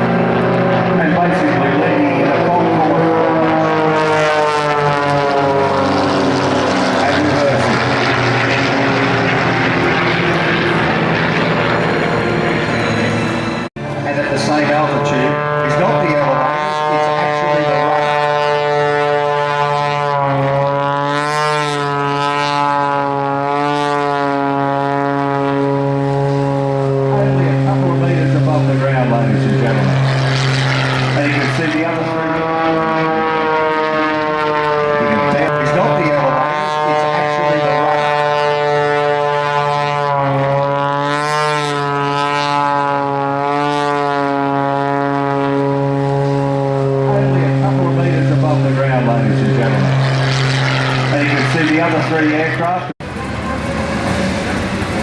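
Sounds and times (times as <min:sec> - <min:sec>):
propeller aircraft droning: 0:00.0 - 0:55.0.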